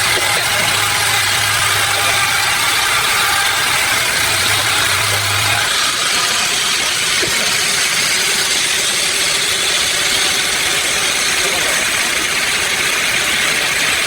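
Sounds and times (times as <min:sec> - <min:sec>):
low hum: 0:00.0 - 0:12.8
machine whine: 0:00.0 - 0:14.0
sawmill machinery din: 0:00.0 - 0:14.0.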